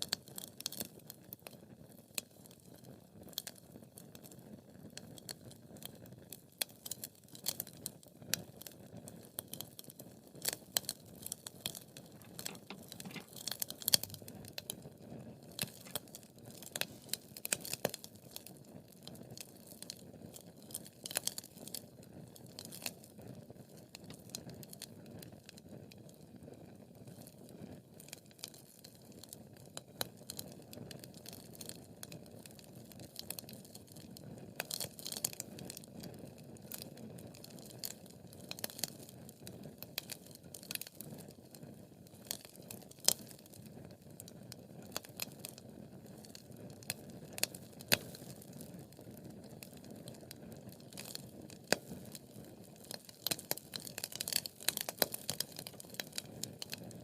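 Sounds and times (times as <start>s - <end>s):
hiss and rumble of burning logs: 0.0s - 57.0s
wood fire crackling: 6.5s - 26.5s, 28.0s - 57.0s.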